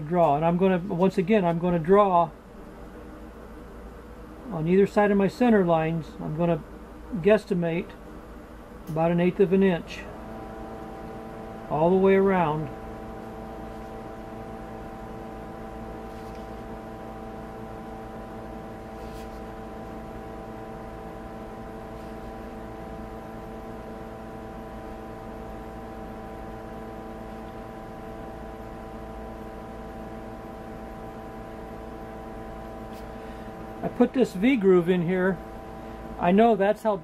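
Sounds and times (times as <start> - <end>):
machine hum over low rumble: 0.0 - 37.0.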